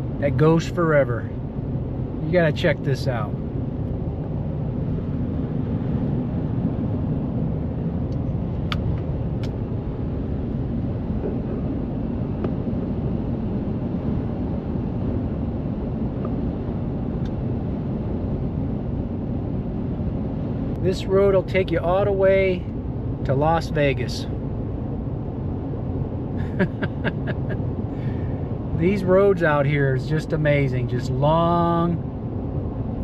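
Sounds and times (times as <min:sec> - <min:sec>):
car driving at highway speed: 0:00.0 - 0:33.0.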